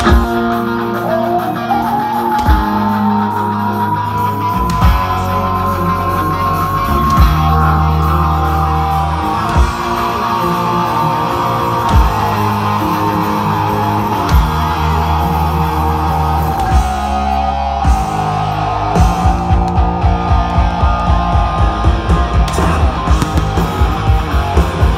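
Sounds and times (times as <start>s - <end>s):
loud rock music: 0.0s - 24.9s.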